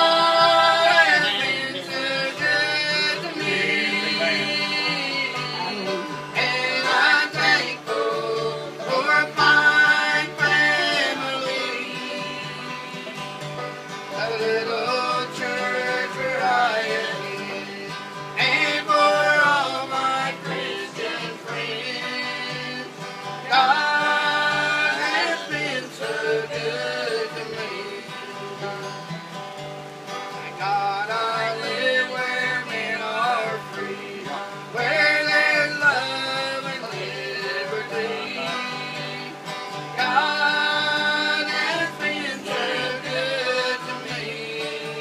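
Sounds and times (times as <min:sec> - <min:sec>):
man and women singing: 0:00.0 - 0:29.2, 0:30.3 - 0:45.0
acoustic guitar strumming: 0:00.0 - 0:45.0.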